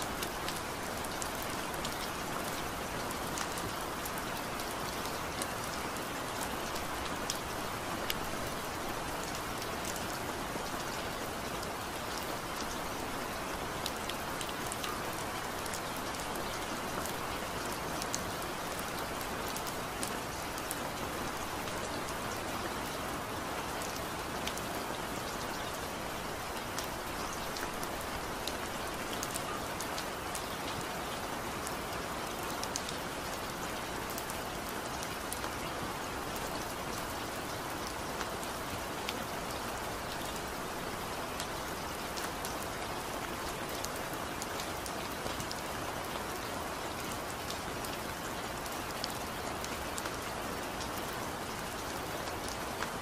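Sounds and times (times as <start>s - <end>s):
rain falling on leafy plants: 0.0s - 53.0s.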